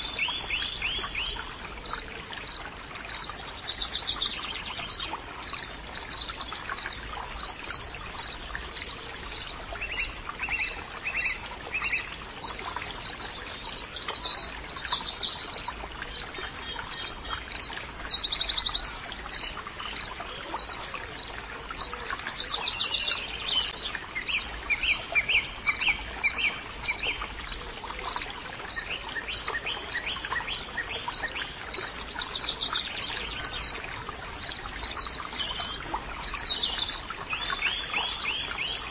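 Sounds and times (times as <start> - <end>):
bird song and trills: 0.0 - 38.9
running water: 0.0 - 38.9.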